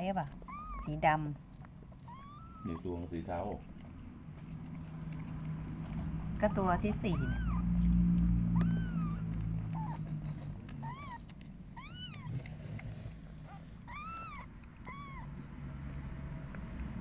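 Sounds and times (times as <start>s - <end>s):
kittens mewing: 0.3s - 1.3s, 1.9s - 3.7s, 4.4s - 15.6s.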